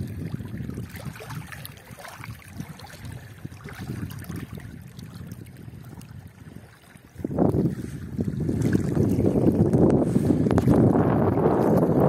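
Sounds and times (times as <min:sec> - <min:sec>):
waves lapping against rocky shore: 0:00.0 - 0:12.0.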